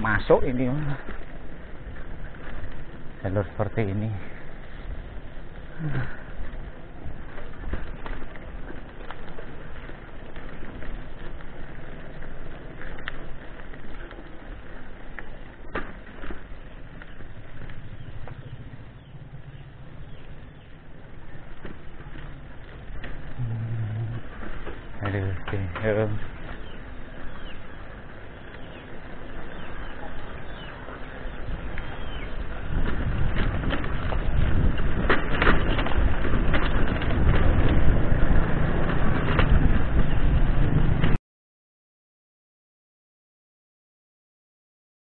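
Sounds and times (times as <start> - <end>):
bike rattling over stones: 0.0 - 41.2
low steady hum: 0.0 - 41.2
wind rumble on microphone: 0.0 - 41.2.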